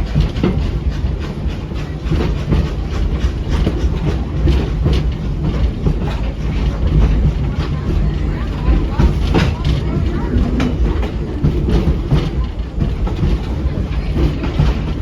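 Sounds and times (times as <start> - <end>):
train rumbling on track: 0.0 - 15.0
wheel clicks and clatter: 0.0 - 15.0.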